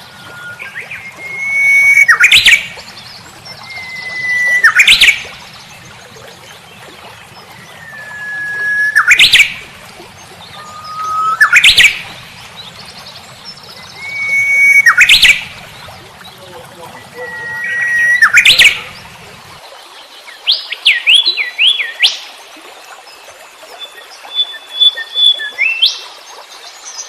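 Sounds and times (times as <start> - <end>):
songbird singing: 0.0 - 19.6, 23.7 - 26.0.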